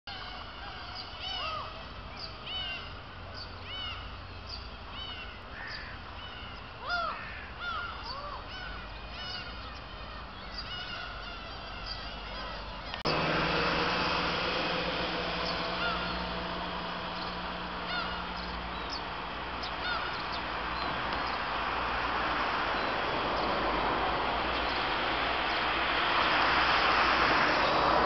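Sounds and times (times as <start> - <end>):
gulls calling: 0.1 - 28.0.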